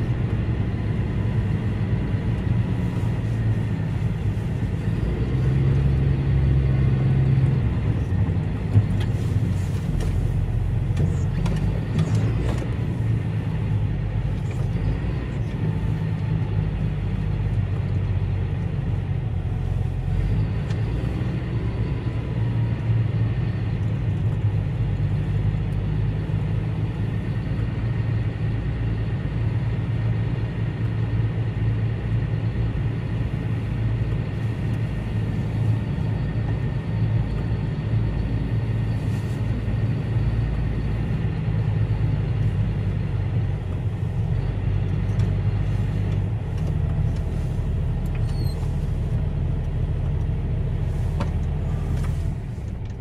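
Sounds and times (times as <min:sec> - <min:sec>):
tractor engine droning: 0:00.0 - 0:53.0.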